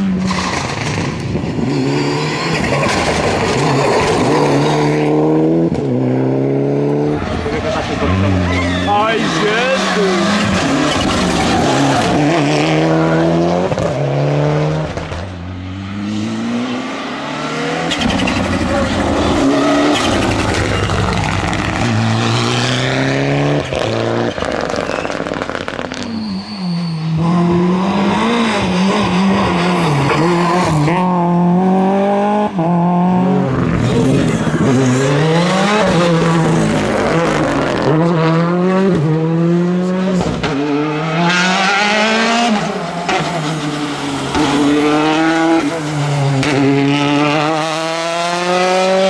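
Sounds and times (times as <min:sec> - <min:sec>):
rally car engines revving: 0:00.0 - 0:49.0.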